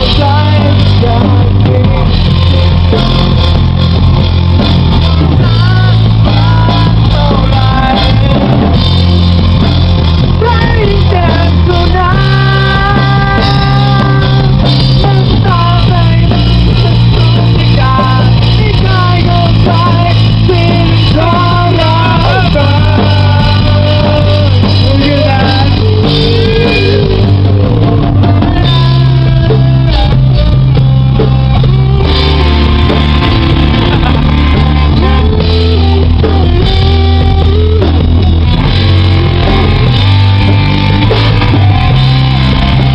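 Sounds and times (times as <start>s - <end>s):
rock song with singing: 0.0s - 42.9s.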